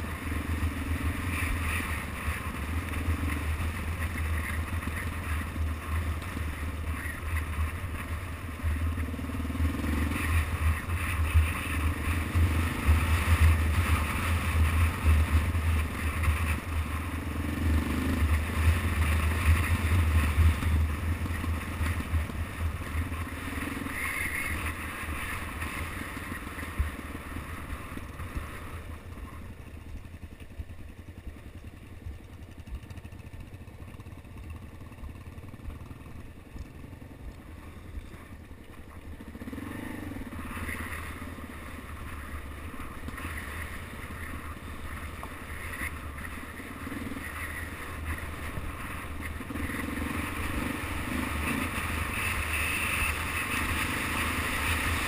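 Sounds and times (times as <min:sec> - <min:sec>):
motorcycle engine rumble: 0:00.0 - 0:55.0.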